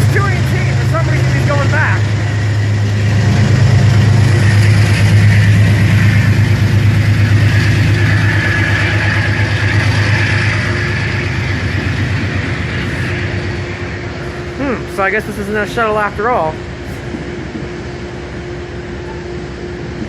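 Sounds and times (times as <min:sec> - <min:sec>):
locomotive diesel engine drone: 0:00.0 - 0:20.0.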